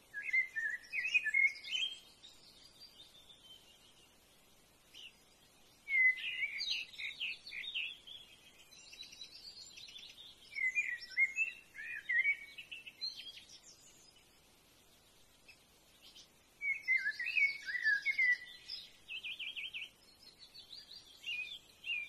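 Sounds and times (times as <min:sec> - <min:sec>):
faint outdoor background noise: 0:00.0 - 0:22.0
birds chirping and whistling: 0:00.1 - 0:04.0, 0:05.8 - 0:14.2, 0:16.1 - 0:22.0.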